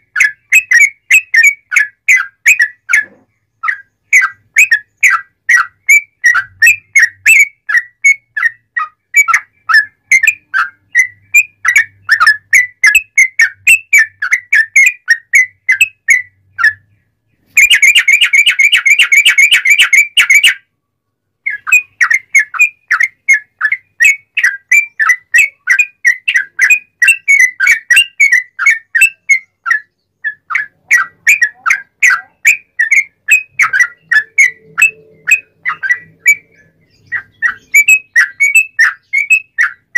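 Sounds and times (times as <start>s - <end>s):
bird fast trill: 0.0s - 20.7s, 21.4s - 39.9s
bird whistling song: 0.0s - 20.7s, 21.4s - 39.9s.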